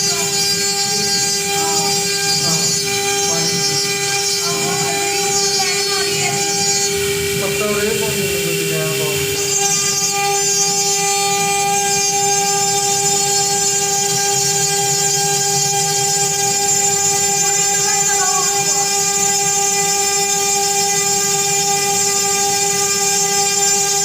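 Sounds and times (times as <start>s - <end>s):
machine high whine: 0.0s - 24.0s.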